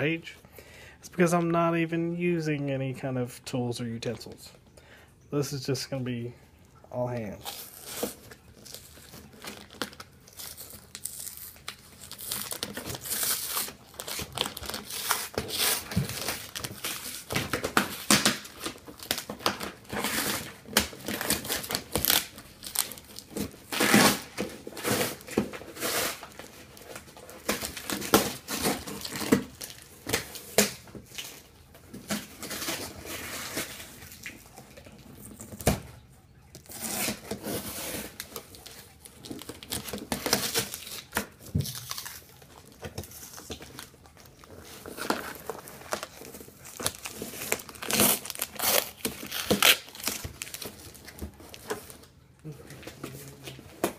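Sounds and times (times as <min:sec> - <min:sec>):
packaging tearing and crumpling: 0:07.2 - 0:53.9.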